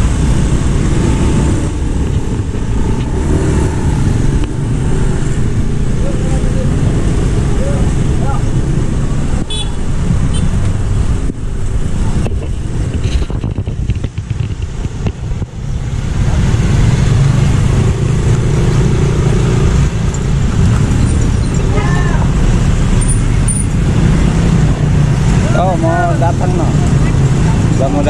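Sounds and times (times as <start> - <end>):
motorcycles and cars passing: 0.0 - 28.0.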